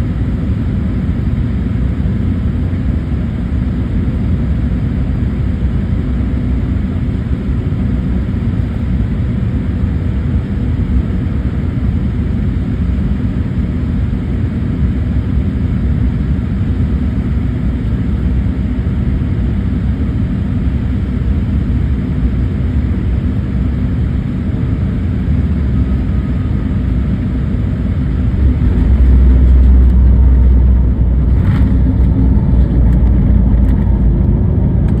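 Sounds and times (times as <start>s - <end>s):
airliner cabin engine rumble: 0.0s - 35.0s.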